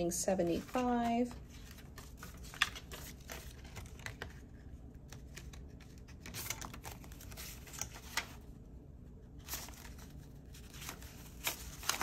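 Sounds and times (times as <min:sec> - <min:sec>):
banknotes rustling: 0:00.2 - 0:08.5, 0:09.4 - 0:12.0.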